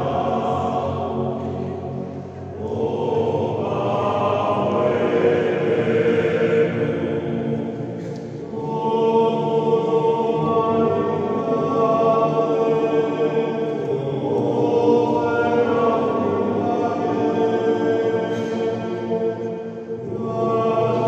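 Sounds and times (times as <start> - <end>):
men's choir singing in harmony: 0.0 - 21.0.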